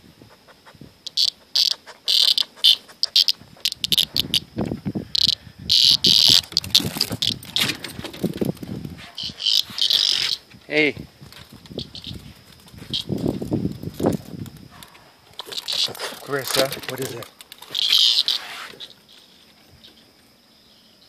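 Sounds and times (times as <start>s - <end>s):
cicada buzzing: 0.0s - 21.0s.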